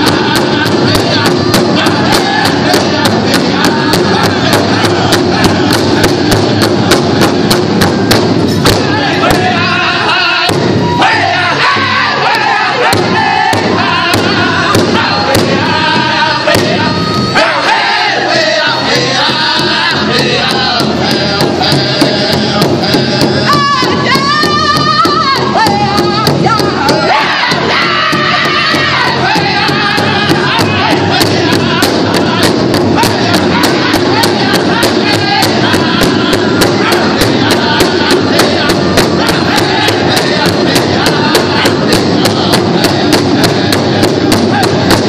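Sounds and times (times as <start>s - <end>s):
large drum beating: 0.0s - 45.0s
men singing together: 0.0s - 45.0s.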